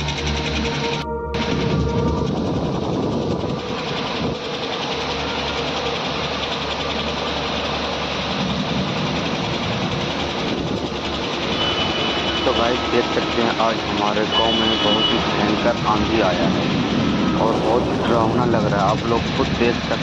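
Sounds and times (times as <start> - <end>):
storm wind: 1.3 - 20.0
wind buffeting microphone: 1.4 - 6.9, 7.6 - 14.3, 15.2 - 20.0
heavy rain: 1.4 - 20.0.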